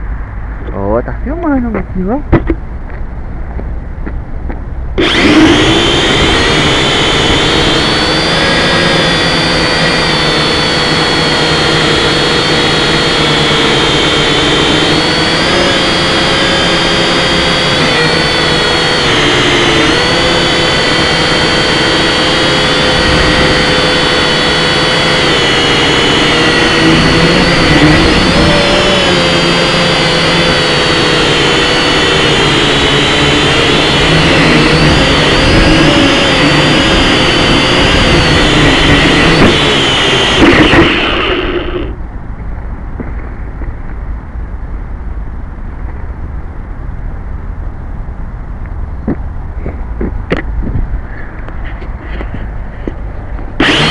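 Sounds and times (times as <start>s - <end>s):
aircraft engine drone in cabin: 4.9s - 53.9s.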